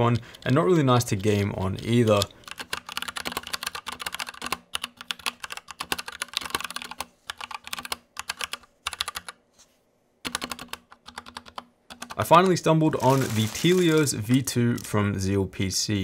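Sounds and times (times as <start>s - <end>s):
fast typing on mechanical keyboard: 0.0s - 9.4s, 10.2s - 15.0s.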